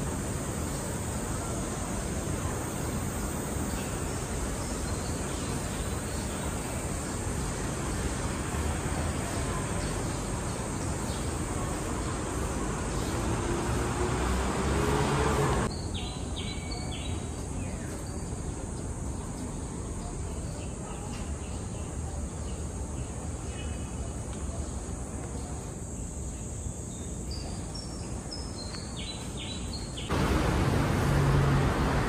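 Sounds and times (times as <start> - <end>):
distant traffic hiss: 0.0 - 32.0.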